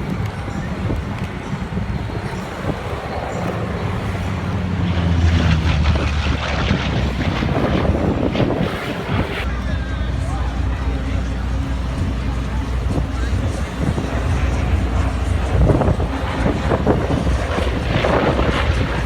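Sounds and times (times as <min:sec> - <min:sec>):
aircraft engine drone: 0:00.0 - 0:19.0
wind buffeting microphone: 0:00.0 - 0:19.0.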